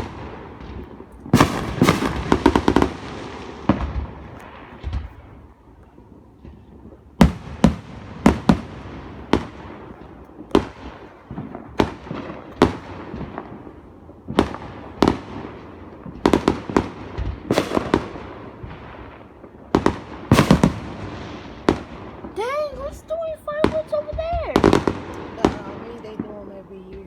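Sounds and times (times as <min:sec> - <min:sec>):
fireworks booming bangs: 0:00.0 - 0:27.0.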